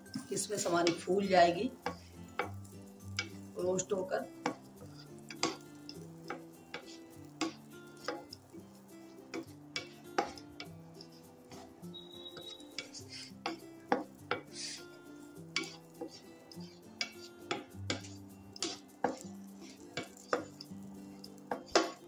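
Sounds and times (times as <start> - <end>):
wooden spatula scraping a pan: 0.0 - 22.0.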